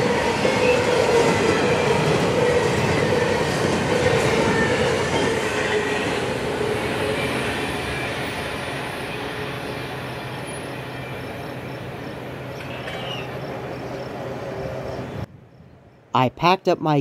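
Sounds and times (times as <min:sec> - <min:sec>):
train rumbling on rails: 0:00.0 - 0:16.1.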